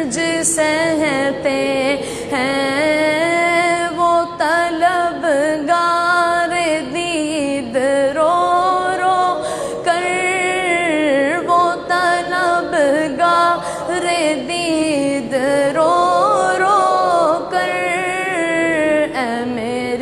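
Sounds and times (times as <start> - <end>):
person singing unaccompanied: 0.0 - 20.0.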